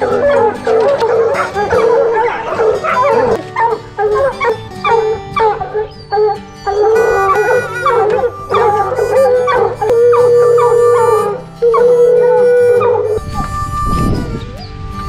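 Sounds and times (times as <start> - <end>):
hounds barking and bawling: 0.0 - 13.5
hound howling: 0.0 - 13.8.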